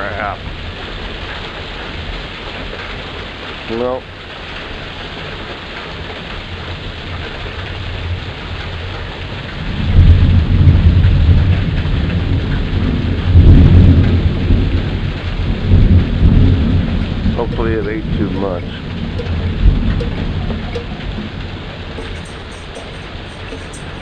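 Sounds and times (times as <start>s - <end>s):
rain and hail hissing: 0.0s - 24.0s
thunder rumble: 4.4s - 24.0s.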